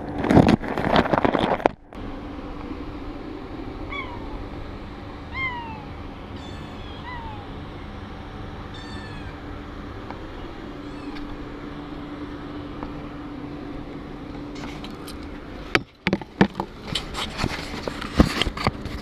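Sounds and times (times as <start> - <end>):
mechanical hum with low tone: 0.0 - 19.0.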